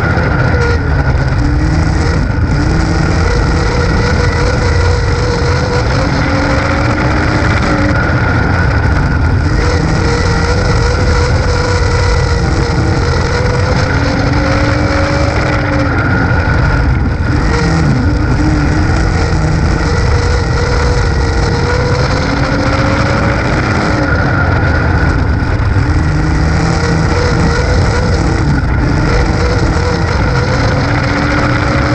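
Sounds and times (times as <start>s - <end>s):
race car engine running hard: 0.0s - 31.9s
rush of wind and dirt: 0.0s - 31.9s.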